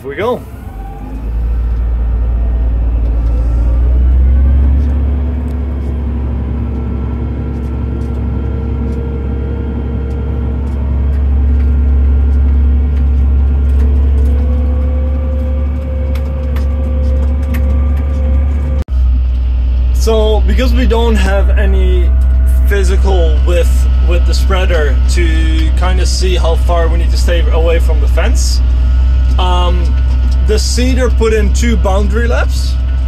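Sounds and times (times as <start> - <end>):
tractor engine drone and whine: 0.0 - 33.0.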